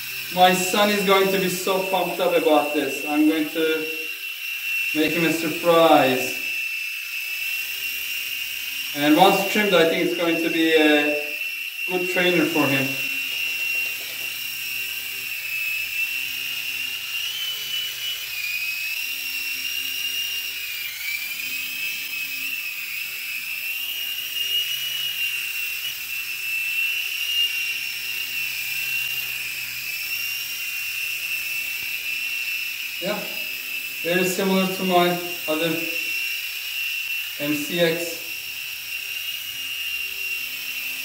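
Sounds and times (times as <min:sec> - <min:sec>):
high motor whine: 0:00.0 - 0:41.0
low rotor hum: 0:00.0 - 0:41.0.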